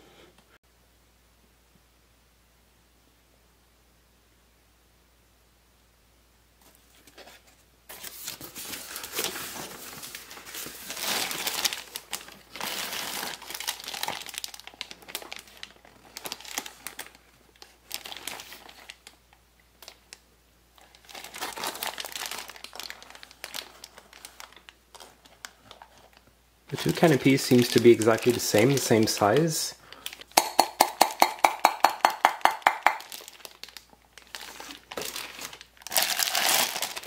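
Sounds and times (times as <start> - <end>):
packing material rustling: 6.9 - 37.0.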